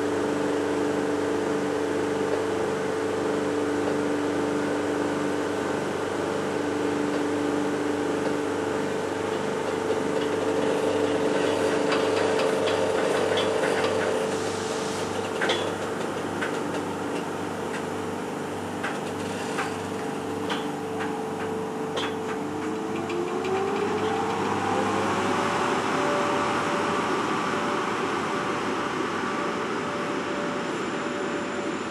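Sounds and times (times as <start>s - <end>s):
rising train whine: 0.0s - 31.9s
train low rumble: 5.3s - 31.9s.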